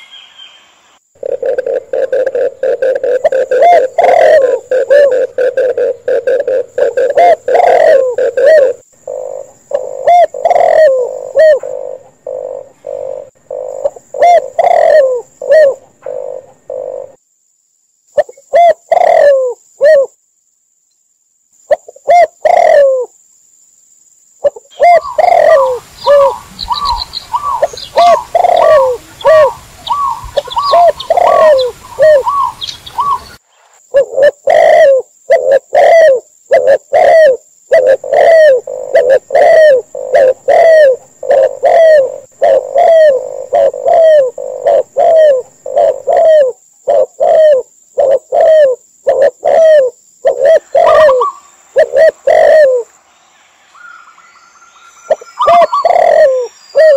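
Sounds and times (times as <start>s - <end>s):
background hiss: 0.0s - 56.9s
doves cooing: 1.2s - 17.2s, 18.2s - 20.1s, 21.8s - 23.1s, 24.4s - 52.9s, 55.1s - 56.9s.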